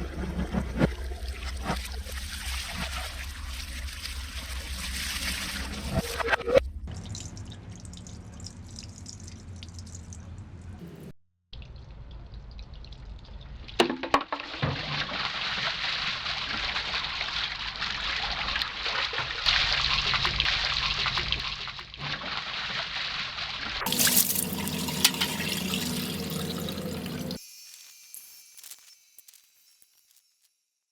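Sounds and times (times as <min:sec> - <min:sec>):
water running and trickling: 0:01.2 - 0:06.0, 0:06.9 - 0:10.6, 0:11.6 - 0:28.4.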